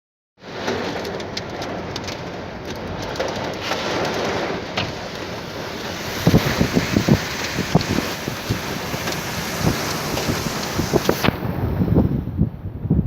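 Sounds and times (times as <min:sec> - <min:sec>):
raindrops ticking on a surface: 0:00.4 - 0:11.4
rain hissing: 0:00.4 - 0:12.2.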